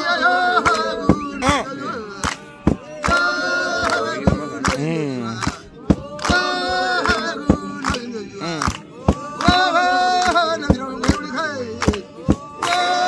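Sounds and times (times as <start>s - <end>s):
group singing unaccompanied: 0.0s - 13.0s
sharp hand claps: 0.6s - 13.0s.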